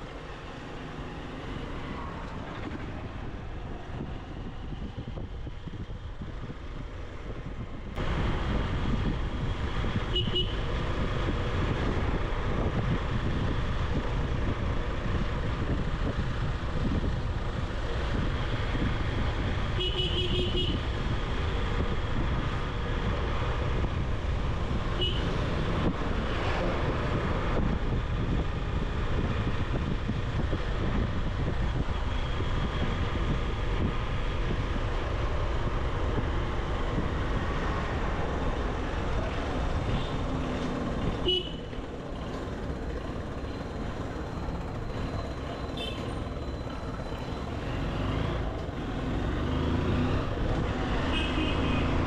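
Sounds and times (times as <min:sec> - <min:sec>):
motorcycle engine and road noise: 0:00.0 - 0:52.0.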